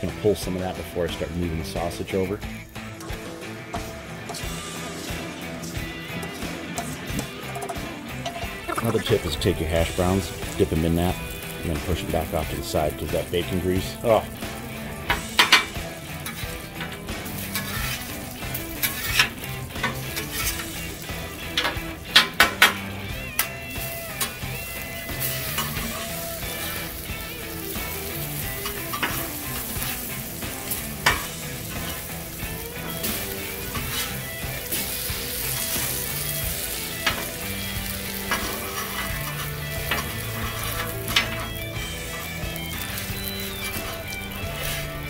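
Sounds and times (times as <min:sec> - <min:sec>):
frying sizzle: 0:00.0 - 0:45.0
spatula scraping on griddle: 0:03.8 - 0:45.0.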